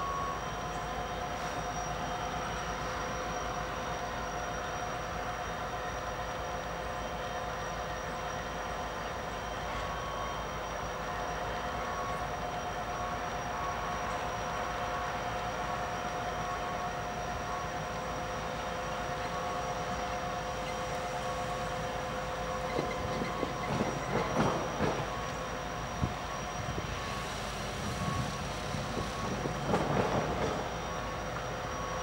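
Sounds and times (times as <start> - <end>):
locomotive idling hum and whine: 0.0 - 32.0.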